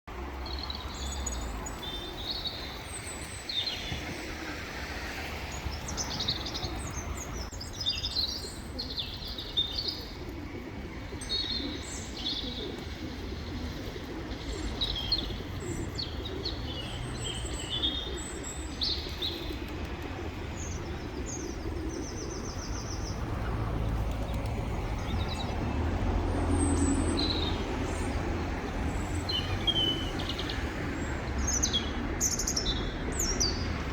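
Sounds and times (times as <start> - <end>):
small birds chirping: 0.4 - 4.4, 5.5 - 33.9.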